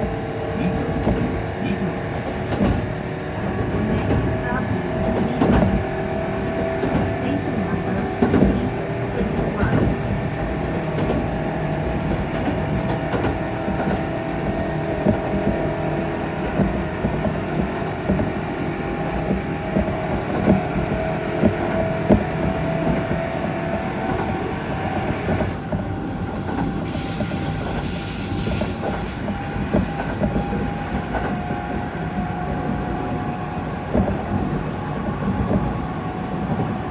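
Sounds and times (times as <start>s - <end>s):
wheels rumbling on track: 0.0s - 36.9s
train traction motor whining: 2.2s - 36.9s.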